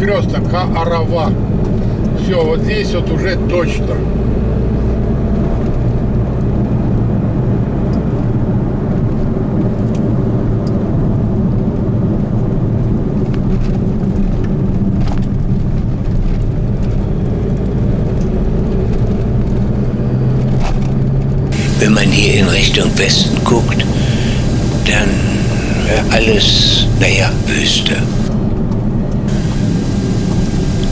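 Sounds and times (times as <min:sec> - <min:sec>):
car driving on highway: 0:00.0 - 0:30.9.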